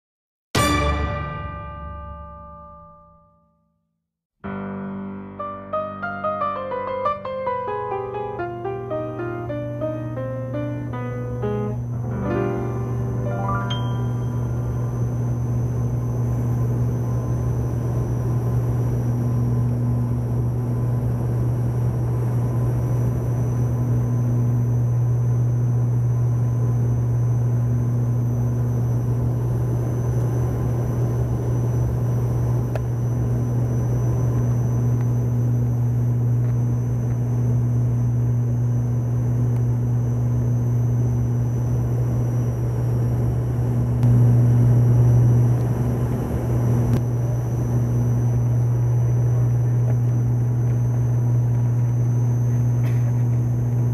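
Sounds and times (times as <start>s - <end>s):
aircraft cabin engine drone: 7.0s - 53.9s.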